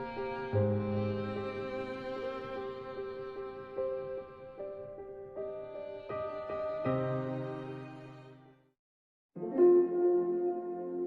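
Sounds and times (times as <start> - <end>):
slow sad instrumental music: 0.0 - 8.6, 9.4 - 11.0.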